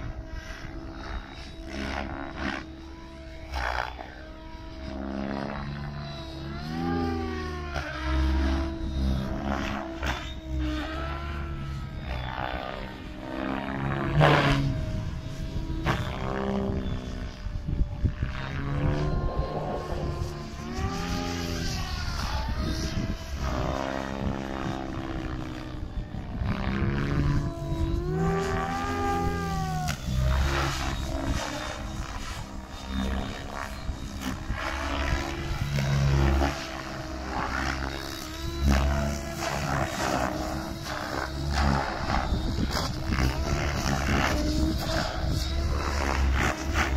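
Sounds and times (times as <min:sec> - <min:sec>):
loud rotor swishes: 0:00.0 - 0:46.9
rc helicopter rotor hum: 0:00.0 - 0:46.9.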